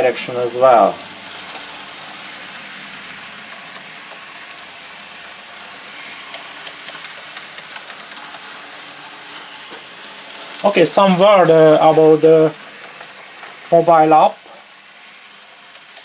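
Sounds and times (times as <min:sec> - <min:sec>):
model train motors whirring: 0:00.0 - 0:16.0
wheels clicking over rail joints: 0:00.0 - 0:16.0.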